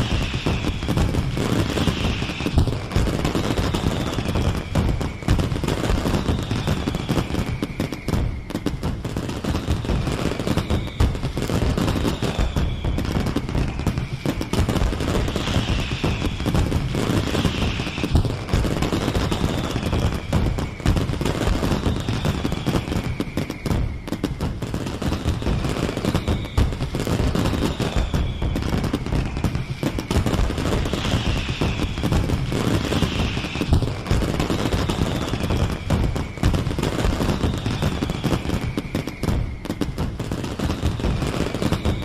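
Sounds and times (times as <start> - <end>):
fireworks bangs and crackling: 0.0 - 42.0
high whistles gliding down: 0.0 - 42.0.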